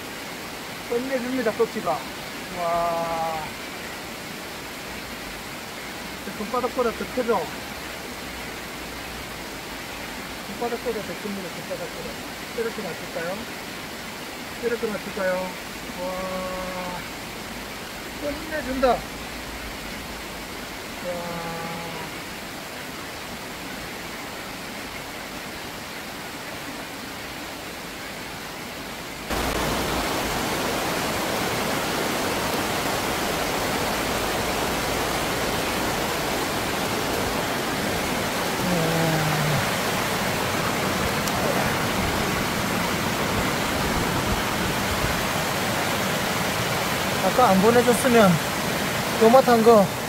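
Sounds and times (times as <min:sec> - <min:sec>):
stream water pouring over weir: 0:00.0 - 0:50.0.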